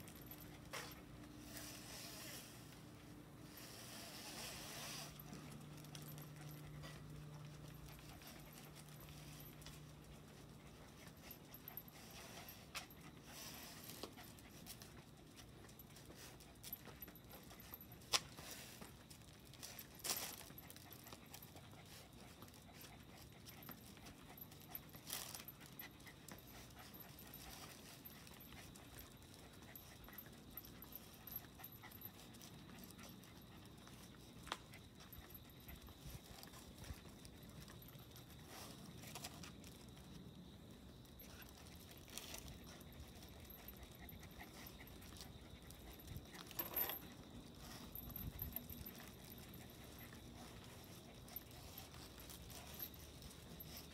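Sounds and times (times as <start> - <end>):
dog panting: 0.0 - 40.2, 41.0 - 53.9.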